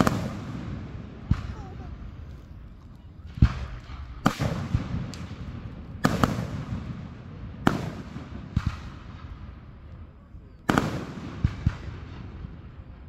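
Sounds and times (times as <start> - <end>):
firework booms with rolling echo: 0.0 - 13.0.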